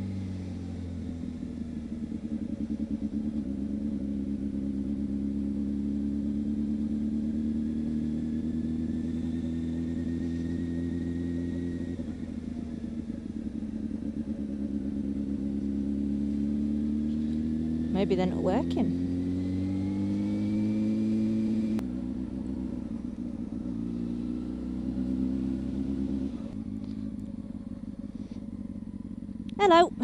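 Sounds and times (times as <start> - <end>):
motorcycle engine at low revs: 0.0 - 30.0.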